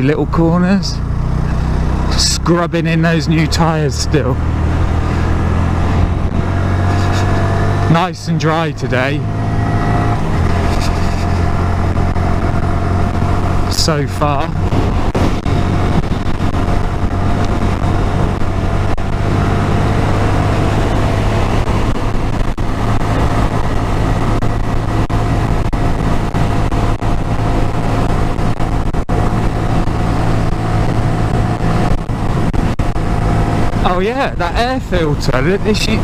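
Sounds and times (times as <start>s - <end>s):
motorcycle engine cruising: 0.0s - 36.0s
wind and road noise: 0.0s - 36.0s.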